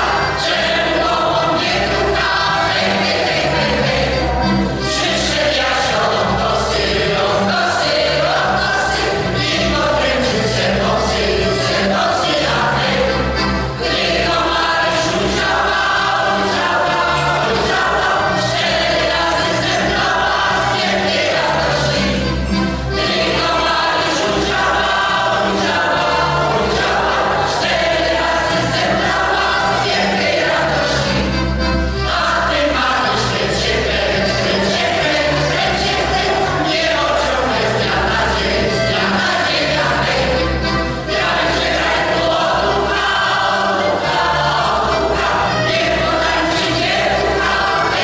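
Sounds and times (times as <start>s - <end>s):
instrumental accompaniment: 0.0s - 48.0s
mixed choir singing a polka: 0.0s - 48.0s.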